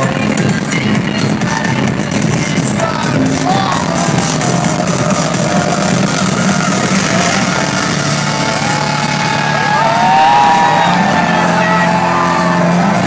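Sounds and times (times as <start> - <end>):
electronic dance music: 0.0 - 13.0
crowd voices calling out: 2.4 - 13.0.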